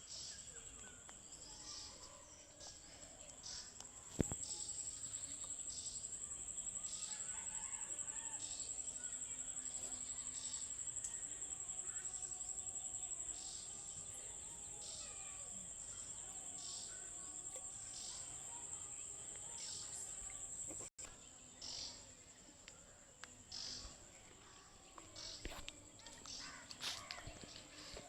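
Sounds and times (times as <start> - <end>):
raspy insect call: 0.0 - 22.3, 23.3 - 28.0
insects trilling: 0.0 - 28.0.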